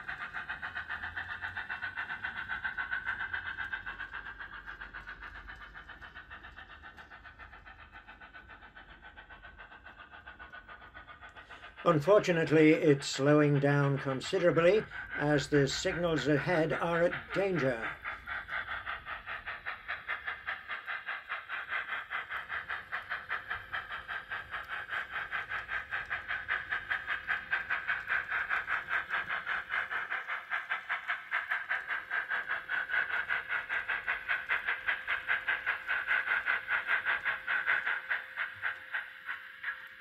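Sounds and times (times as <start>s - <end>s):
model steam locomotive chuffing: 0.0s - 40.0s.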